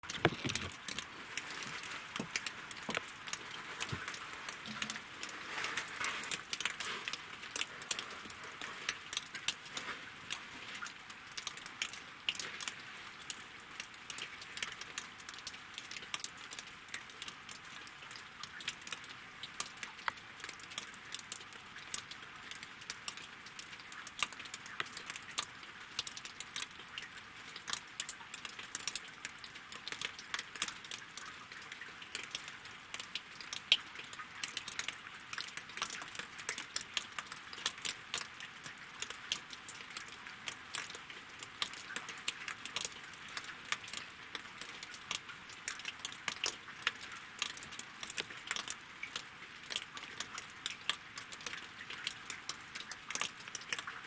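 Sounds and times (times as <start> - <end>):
rain pattering on lake and logs: 0.0 - 54.0.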